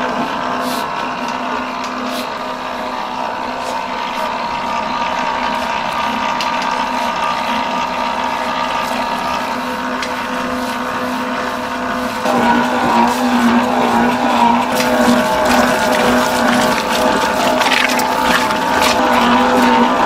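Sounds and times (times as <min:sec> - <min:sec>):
dough mixer motor humming: 0:00.0 - 0:20.0.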